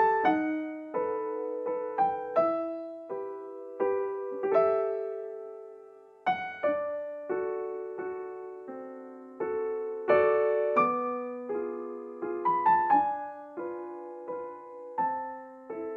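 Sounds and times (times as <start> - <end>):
slow piano music: 0.0 - 15.9.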